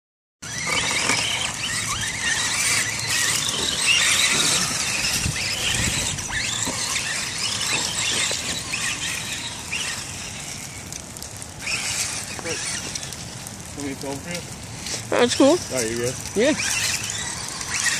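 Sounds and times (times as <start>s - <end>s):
toy truck electric motors whining: 0.4s - 11.0s, 11.6s - 17.9s.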